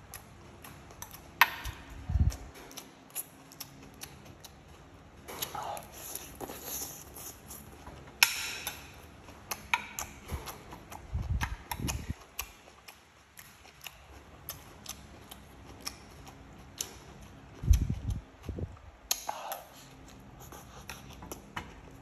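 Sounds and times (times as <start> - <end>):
chewing and mouth clicks: 0.0 - 22.0.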